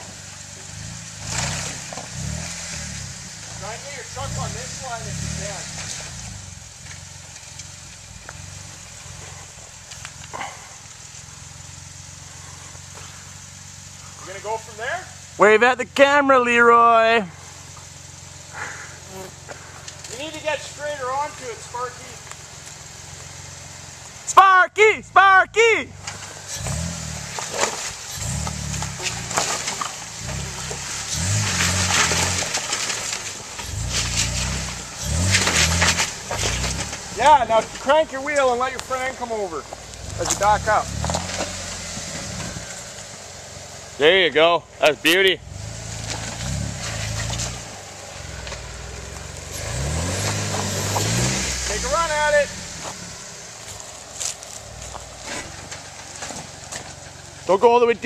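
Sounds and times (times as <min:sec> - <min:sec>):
steady hiss: 0:00.0 - 0:25.2, 0:25.9 - 0:58.0
vehicle engine idling: 0:00.0 - 0:58.0.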